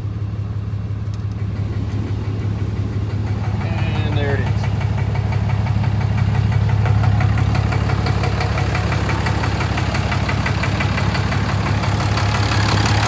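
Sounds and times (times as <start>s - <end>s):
diesel engine idling: 0.0s - 13.0s
rapid engine knock: 1.5s - 13.0s.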